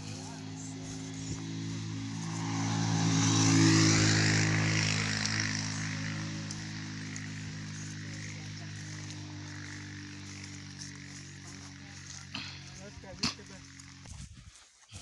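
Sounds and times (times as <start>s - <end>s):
motor vehicle passing by: 0.0s - 14.1s.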